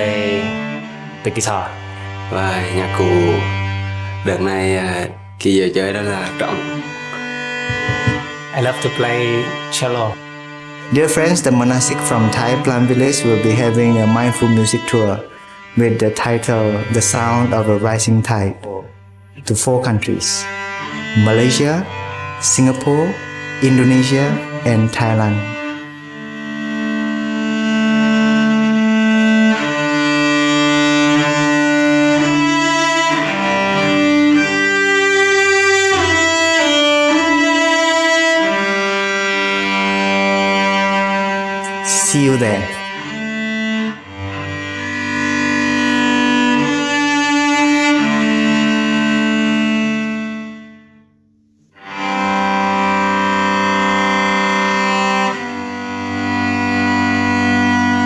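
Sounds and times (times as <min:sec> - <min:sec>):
cello and violin slow melody: 0:00.0 - 0:51.0, 0:51.6 - 0:58.0
sustained bowed string chords: 0:00.0 - 0:58.0.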